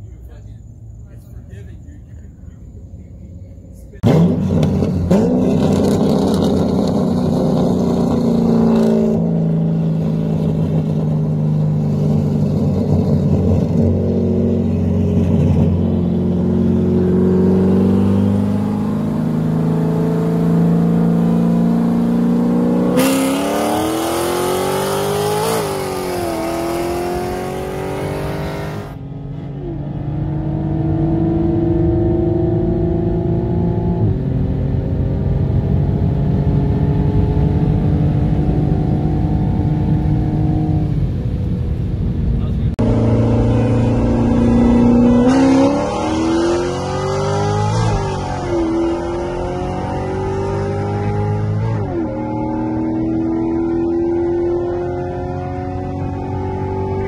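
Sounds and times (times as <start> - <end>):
car engines accelerating hard: 0.0 - 57.0.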